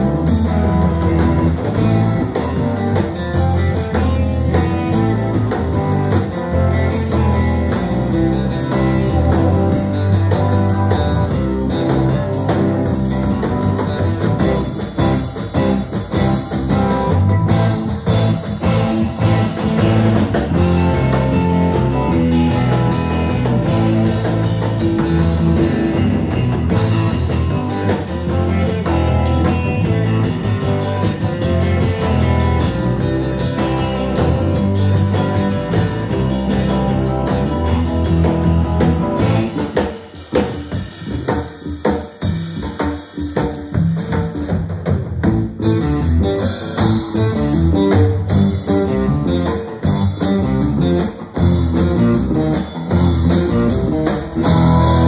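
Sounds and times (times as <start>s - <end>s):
walking bass line: 0.0s - 39.8s, 43.8s - 55.0s
drum kit: 0.0s - 55.0s
lead guitar: 0.0s - 55.0s.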